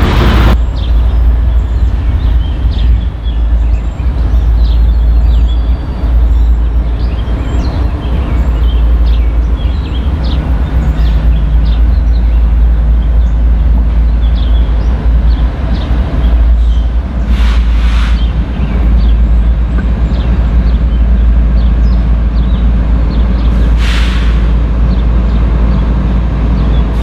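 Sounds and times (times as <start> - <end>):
diesel freight train rumbling: 0.0 - 27.0.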